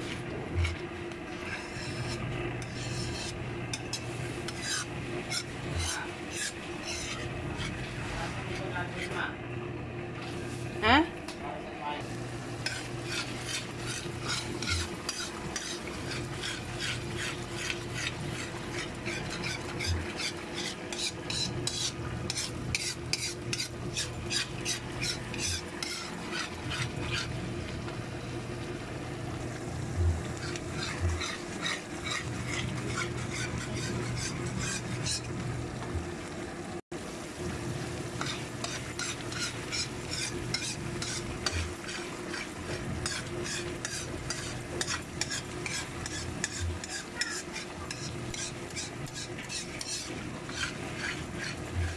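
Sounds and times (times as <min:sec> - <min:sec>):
metal spoon scraping a pan: 0:00.0 - 0:09.3, 0:12.6 - 0:27.3, 0:30.3 - 0:35.4, 0:38.2 - 0:51.9
steady low hum: 0:00.0 - 0:51.9.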